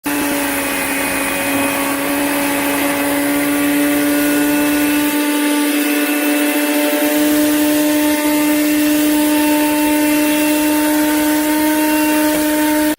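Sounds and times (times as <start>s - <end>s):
handheld vacuum cleaner running: 0.0s - 12.9s.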